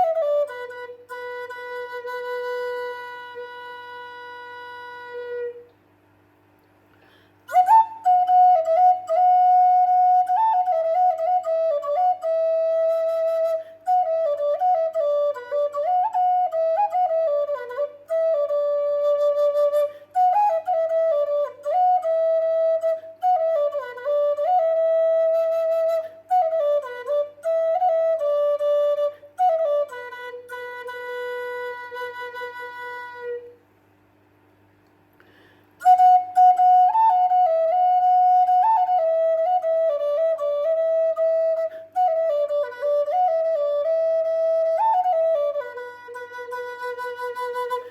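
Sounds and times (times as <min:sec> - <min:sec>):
solo flute melody: 0:00.0 - 0:05.8, 0:07.4 - 0:33.7, 0:35.8 - 0:47.9.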